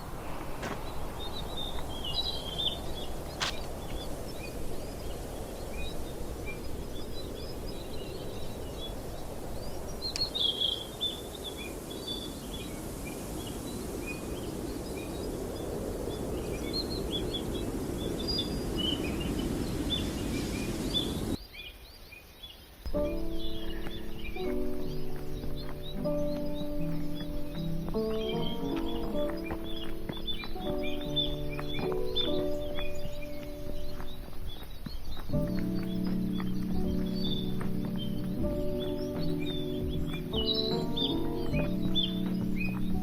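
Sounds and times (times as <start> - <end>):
birds chirping and calling: 0.0 - 21.4, 22.9 - 43.0
low rushing background: 0.0 - 21.4, 22.9 - 43.0.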